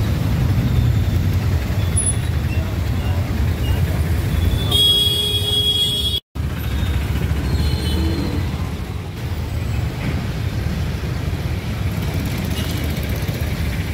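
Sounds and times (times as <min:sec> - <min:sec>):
street traffic rumble: 0:00.0 - 0:13.9.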